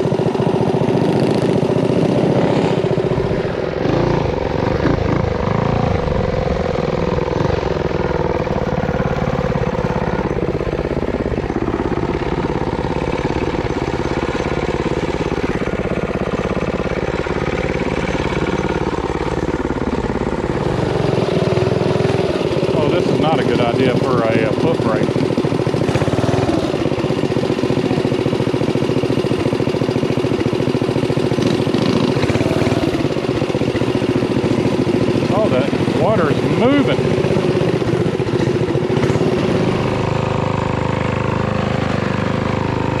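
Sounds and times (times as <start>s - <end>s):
small motorbike engine revving: 0.0s - 43.0s.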